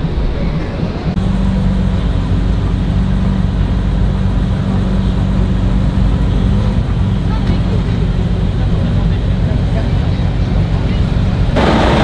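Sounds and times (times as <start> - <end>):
vehicle engine running: 0.9 - 12.0.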